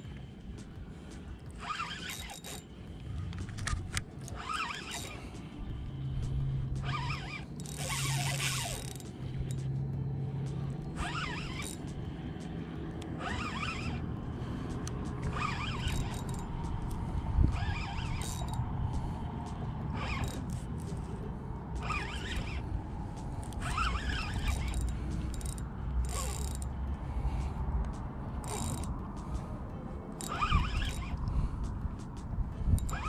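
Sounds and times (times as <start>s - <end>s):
fishing reel drag zipping: 1.5s - 9.8s, 10.5s - 12.4s, 13.1s - 21.2s, 21.8s - 27.4s, 28.4s - 29.4s, 30.1s - 31.7s, 32.6s - 33.0s.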